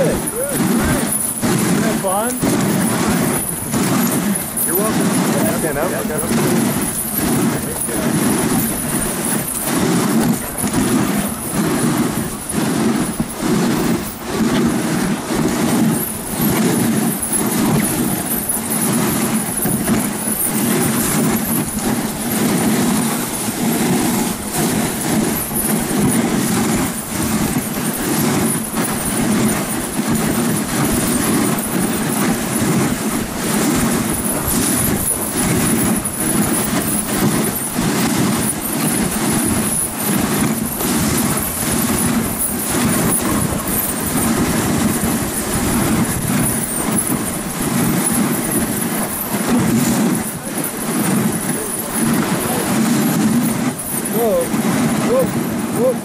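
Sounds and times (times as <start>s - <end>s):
wind buffeting microphone: 0.0s - 55.8s
sled runners scraping over snow: 0.0s - 56.0s.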